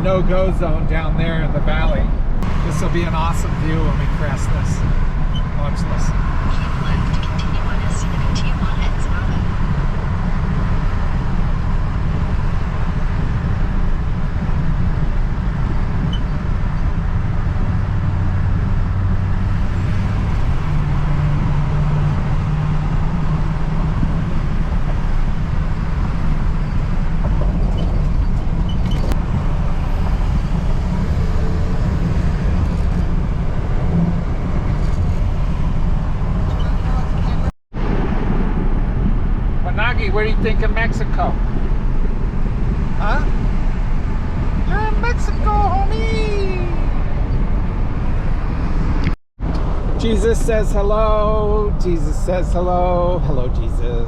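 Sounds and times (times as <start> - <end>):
truck engine and tyre drone: 0.0 - 54.0.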